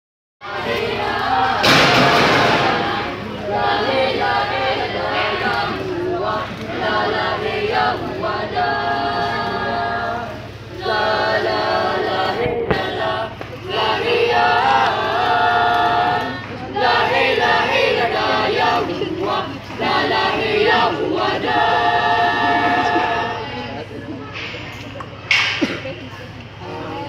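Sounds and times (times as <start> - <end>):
group of voices singing: 0.4 - 24.6.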